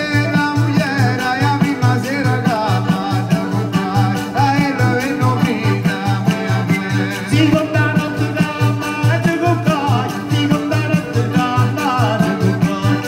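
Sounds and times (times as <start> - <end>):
accordion: 0.0 - 13.0
acoustic guitar: 0.0 - 13.0
driving bass pulse: 0.0 - 13.0
frame drum: 0.0 - 13.0
person singing: 0.0 - 13.0.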